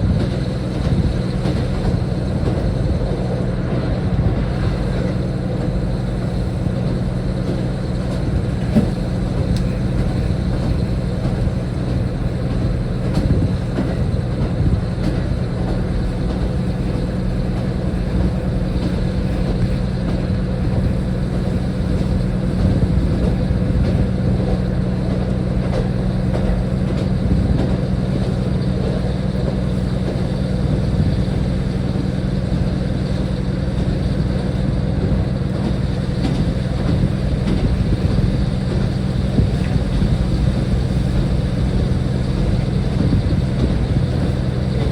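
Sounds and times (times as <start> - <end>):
diesel railcar engine hum: 0.0 - 44.9
train rolling noise: 0.0 - 44.9.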